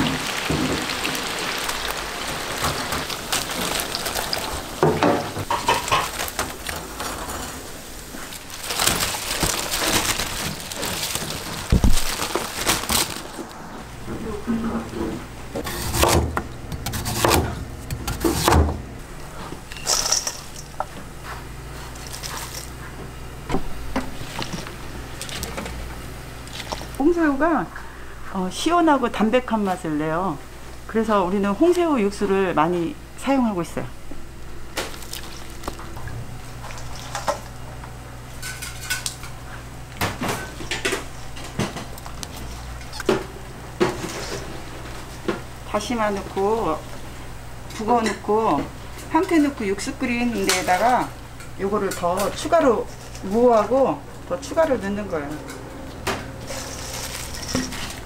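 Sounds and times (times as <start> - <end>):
steady low hum: 3.2 - 58.0.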